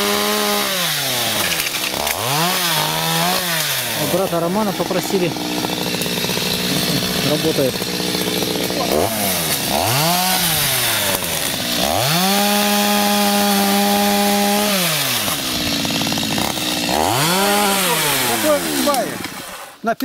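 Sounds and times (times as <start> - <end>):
chainsaw revving: 0.0 - 19.8.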